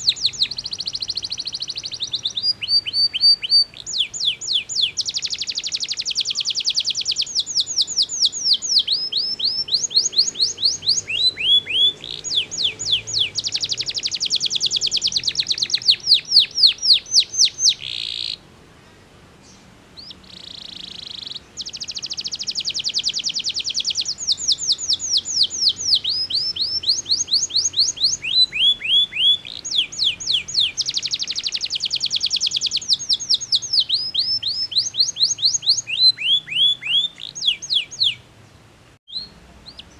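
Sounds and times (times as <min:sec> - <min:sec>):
canary singing trills: 0:00.0 - 0:38.3, 0:39.1 - 0:39.9.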